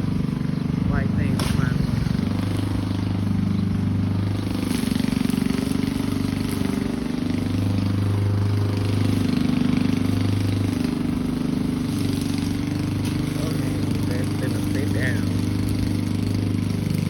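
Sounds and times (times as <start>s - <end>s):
lawn mower engine cutting grass: 0.0s - 17.0s.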